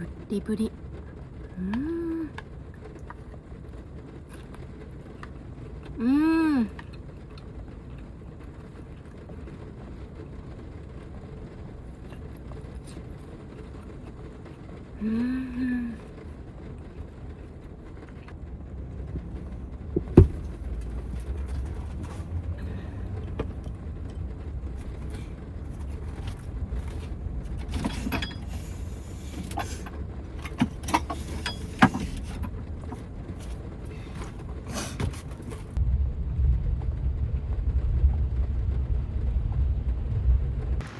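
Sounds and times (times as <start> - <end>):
rain and wind on a vehicle: 0.0 - 40.9.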